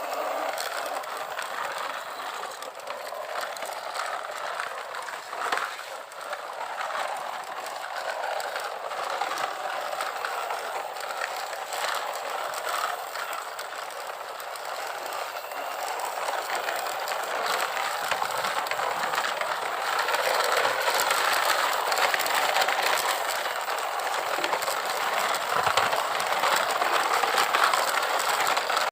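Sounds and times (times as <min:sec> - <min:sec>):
plastic toy mechanisms clattering: 0:00.0 - 0:28.9.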